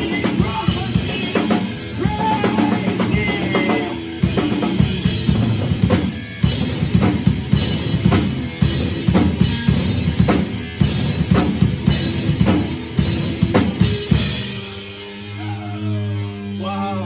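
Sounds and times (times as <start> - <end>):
drum kit playing: 0.0 - 15.6
guitar and bass chords: 0.0 - 17.0.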